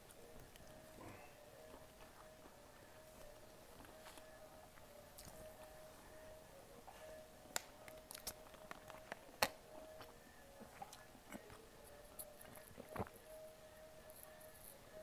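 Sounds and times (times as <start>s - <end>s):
faint chewing: 0.0s - 15.0s
faint steady hum: 0.0s - 15.0s.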